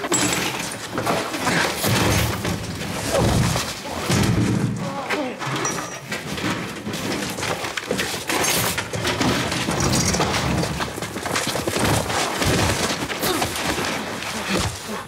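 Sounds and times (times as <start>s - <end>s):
wood cracking and splintering: 0.0s - 5.5s, 6.2s - 15.0s
knocks thuds and scuffling: 0.0s - 15.0s.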